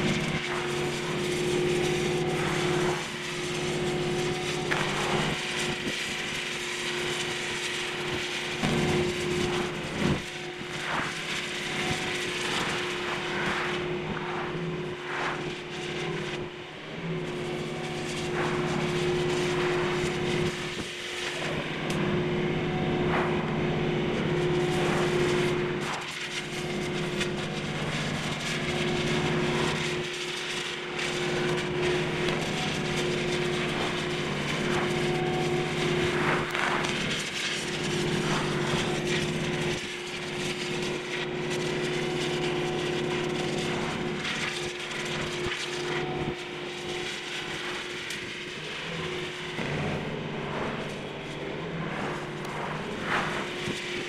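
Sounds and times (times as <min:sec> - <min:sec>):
machine drone: 0:00.0 - 0:54.0.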